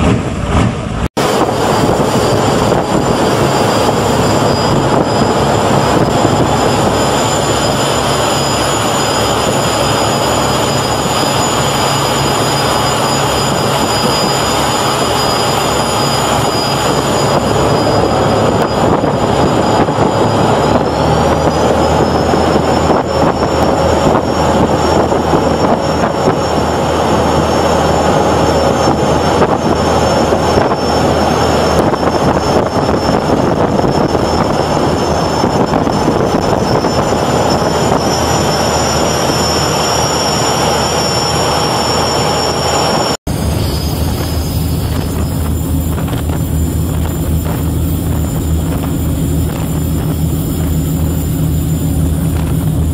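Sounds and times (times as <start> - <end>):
boat wake rushing: 0.0 - 52.9
diesel boat engines droning: 0.0 - 52.9
high engine whine: 0.0 - 52.9
rushing wind: 0.0 - 52.9.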